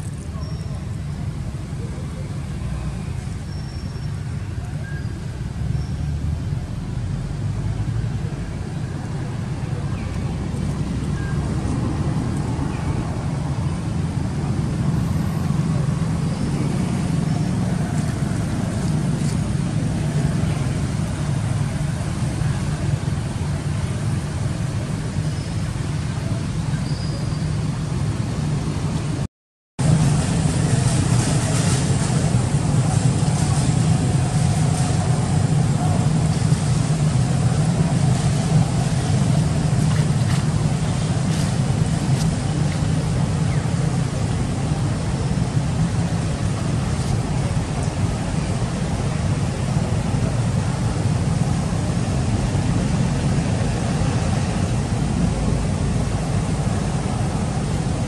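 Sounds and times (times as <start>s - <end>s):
low rumbling background noise: 0.0s - 58.0s.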